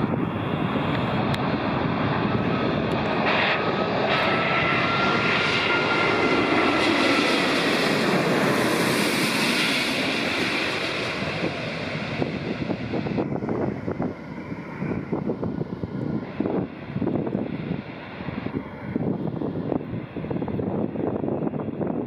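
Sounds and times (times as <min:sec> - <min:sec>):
jet airliner passing overhead: 0:00.0 - 0:22.0.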